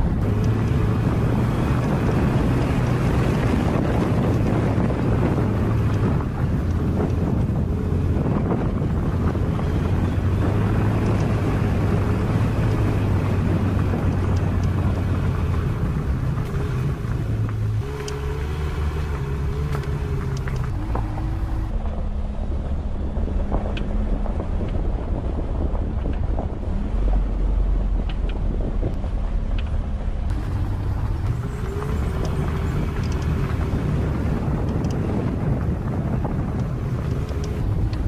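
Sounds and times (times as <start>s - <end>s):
car engine hum: 0.0s - 38.0s
tyre and road noise: 0.0s - 38.0s
wind on microphone: 0.0s - 38.0s.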